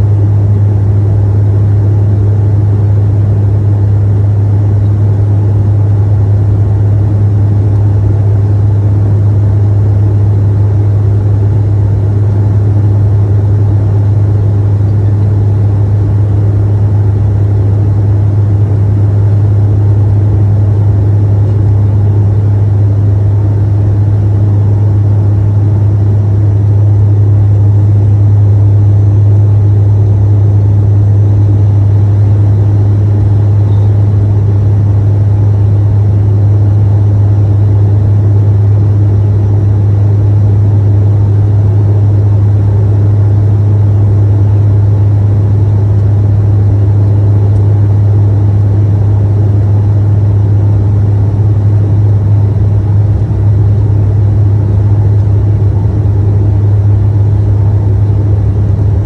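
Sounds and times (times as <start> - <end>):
propeller engines droning: 0.0 - 59.0.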